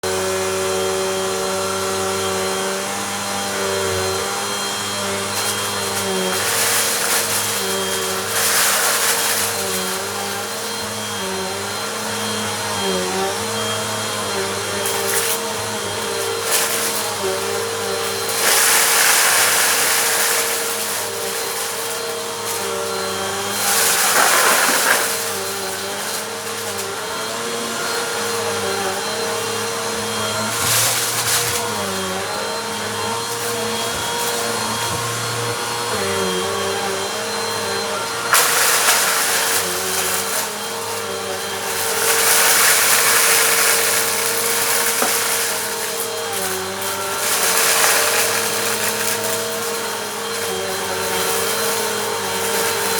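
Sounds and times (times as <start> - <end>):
vacuum cleaner motor hum: 0.0 - 52.9.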